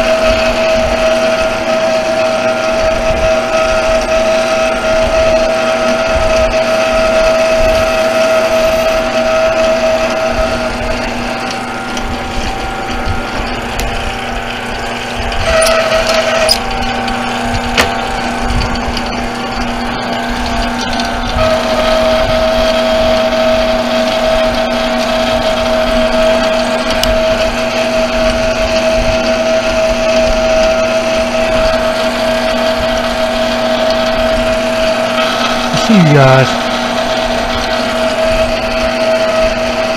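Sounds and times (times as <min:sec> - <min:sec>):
metal lathe whining: 0:00.0 - 0:39.9.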